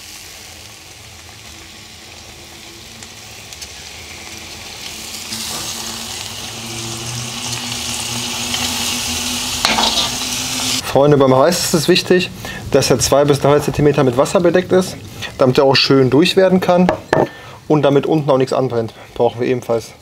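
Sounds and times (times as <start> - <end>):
meat and vegetables sizzling: 0.0 - 20.0.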